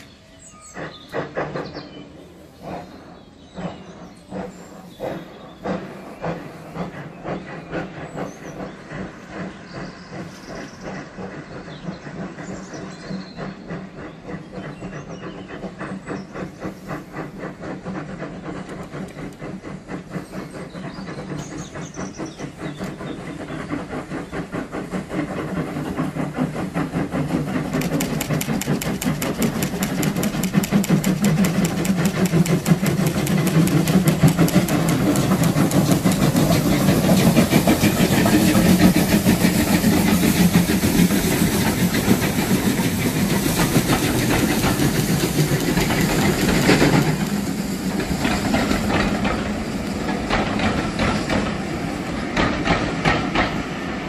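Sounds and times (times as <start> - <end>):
hissing steam: 0.0 - 54.0
steam locomotive exhaust beats: 0.0 - 54.0.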